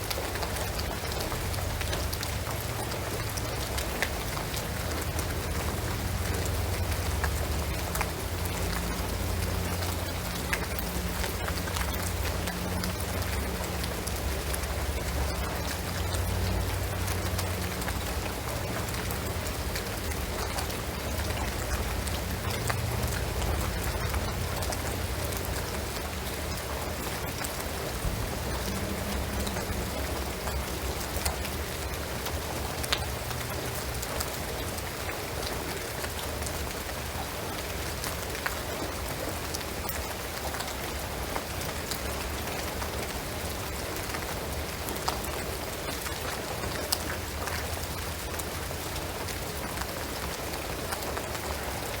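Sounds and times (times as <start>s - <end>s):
rain on a roof: 0.0s - 52.0s.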